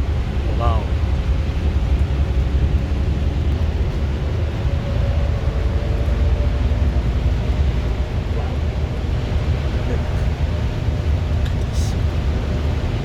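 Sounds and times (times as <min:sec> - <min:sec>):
rushing floodwater: 0:00.0 - 0:13.0
wind buffeting microphone: 0:00.0 - 0:13.0.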